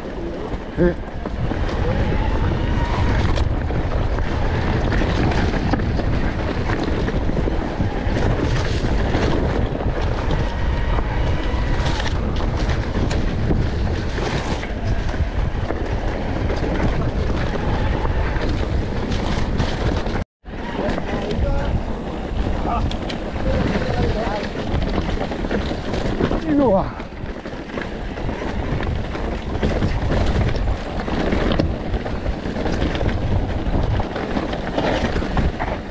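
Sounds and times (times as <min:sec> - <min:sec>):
bike knocking and rattling: 0:00.0 - 0:35.9
wind buffeting microphone: 0:00.0 - 0:35.9.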